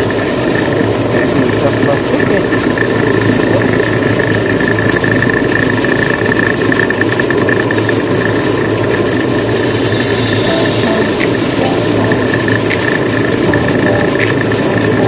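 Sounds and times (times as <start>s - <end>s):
washing machine motor humming and whining: 0.0s - 15.0s.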